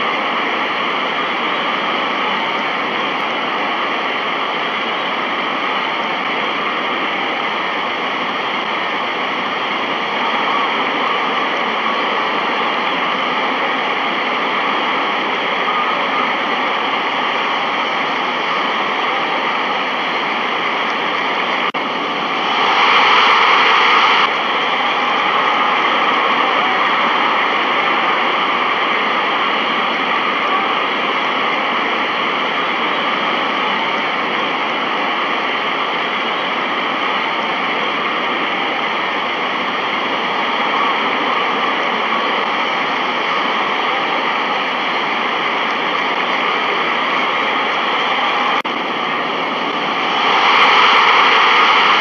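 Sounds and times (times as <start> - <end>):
steady rushing noise: 0.0 - 52.0.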